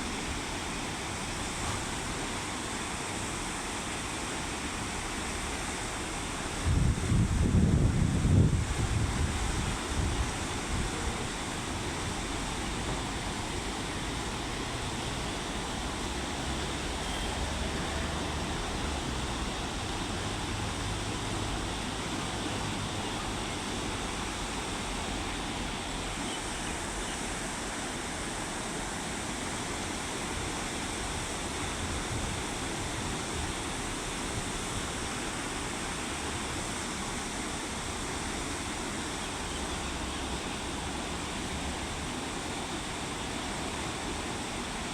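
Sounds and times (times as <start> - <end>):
river rushing: 0.0 - 44.9.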